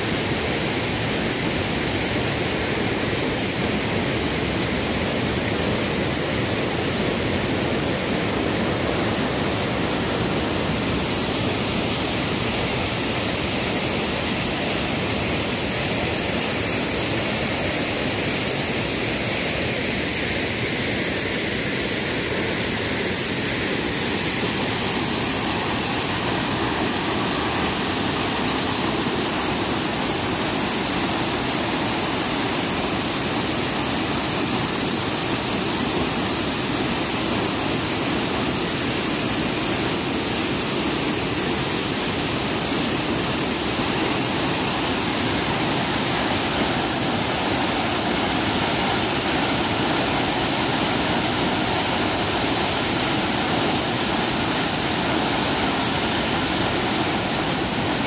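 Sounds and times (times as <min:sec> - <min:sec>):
waterfall rushing onto boulders: 0:00.0 - 0:58.0.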